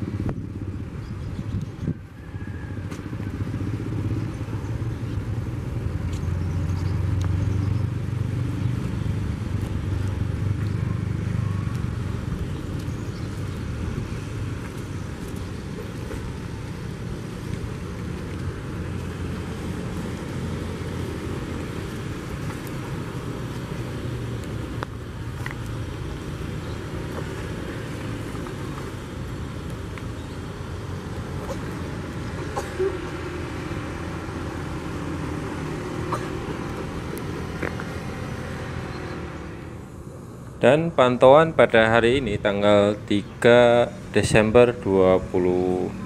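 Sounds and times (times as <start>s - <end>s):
low rumble of vehicles: 0.0s - 46.0s.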